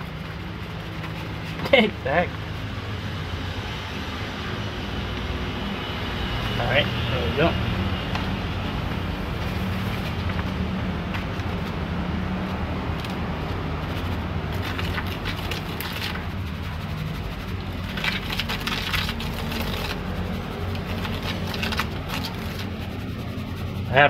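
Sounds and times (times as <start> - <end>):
stick stirring gritty mix: 0.0 - 3.0, 5.1 - 24.0.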